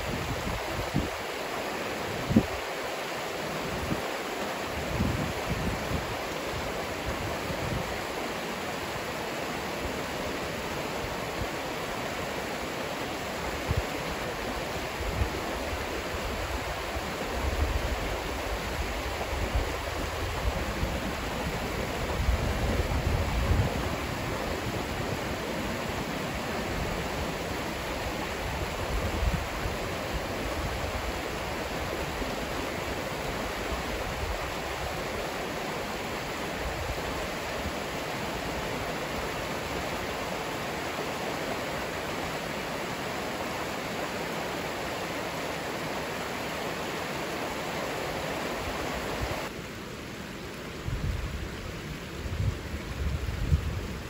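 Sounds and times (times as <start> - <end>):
river rapids rushing over rocks: 0.0 - 50.8.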